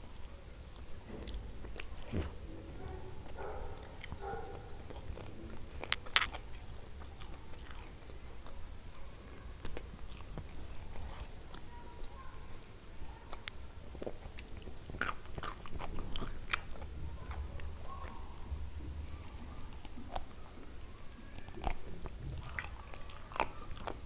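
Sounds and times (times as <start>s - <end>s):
chewing and mouth sounds: 0.0s - 12.2s, 13.2s - 24.0s.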